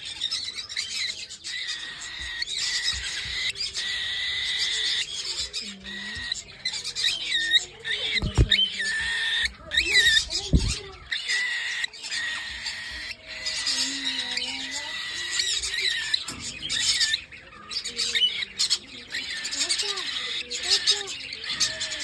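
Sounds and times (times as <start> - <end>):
parrots chirping and squawking: 0.0 - 22.0.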